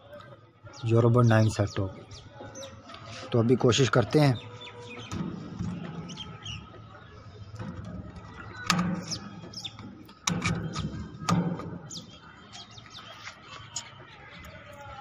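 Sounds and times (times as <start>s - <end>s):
small birds chirping: 0.7s - 14.8s.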